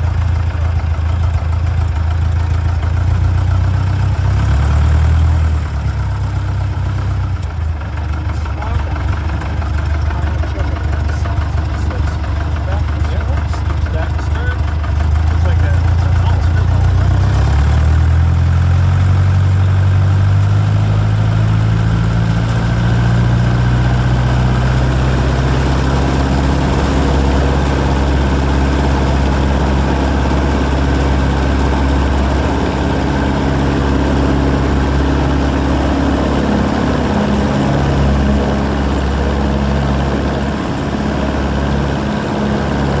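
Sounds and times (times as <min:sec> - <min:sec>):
light aircraft engine idling: 0:00.0 - 0:04.4, 0:05.4 - 0:17.2, 0:19.3 - 0:43.0.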